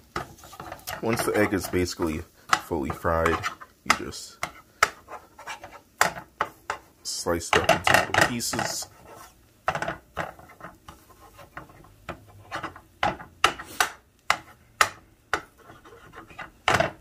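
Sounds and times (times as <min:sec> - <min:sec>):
spatula tapping and scraping pan: 0:00.0 - 0:17.0.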